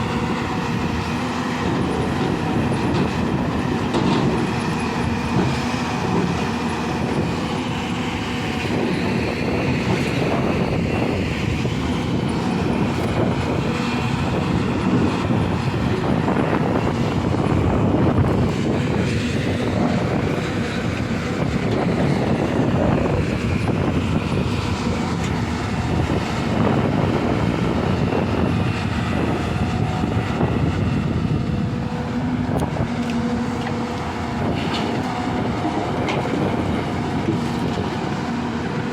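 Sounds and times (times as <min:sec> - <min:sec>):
excavator diesel rumble: 0:00.0 - 0:38.9
steel tracks clanking: 0:00.0 - 0:38.9.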